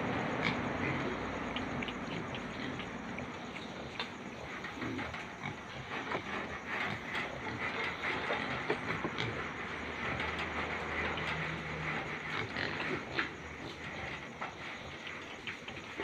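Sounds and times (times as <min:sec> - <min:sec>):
pigs feeding and rooting: 0:00.0 - 0:16.0.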